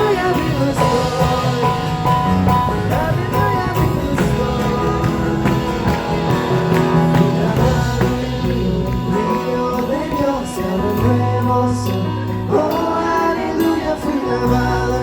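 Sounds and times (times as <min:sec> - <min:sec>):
band playing worship song: 0:00.0 - 0:15.0
voices singing along: 0:00.0 - 0:15.0.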